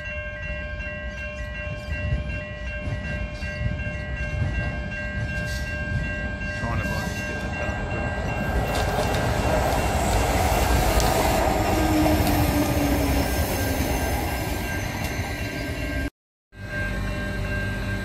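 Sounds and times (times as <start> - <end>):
train wheel and engine rumble: 0.0 - 18.0.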